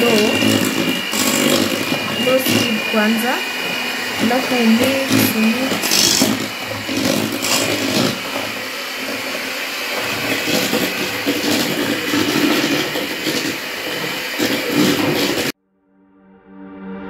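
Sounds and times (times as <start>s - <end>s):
electric hand mixer whirring: 0.0s - 15.6s.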